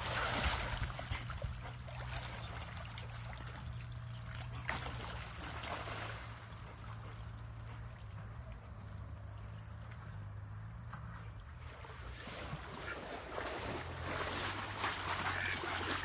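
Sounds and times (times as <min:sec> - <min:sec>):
low hum: 0:00.0 - 0:16.0
water splashing and sloshing: 0:00.0 - 0:16.0.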